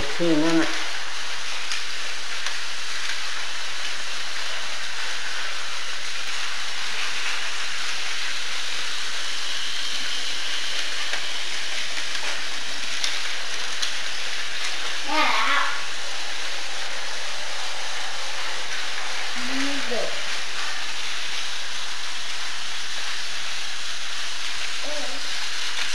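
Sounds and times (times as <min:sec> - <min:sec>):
toy train motor whirring: 0:00.0 - 0:25.9.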